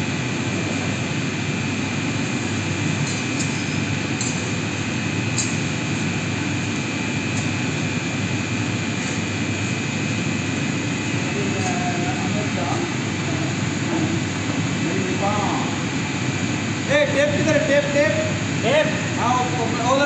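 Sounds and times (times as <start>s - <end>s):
machinery drone: 0.0s - 20.0s
thin steady whine: 0.0s - 20.0s.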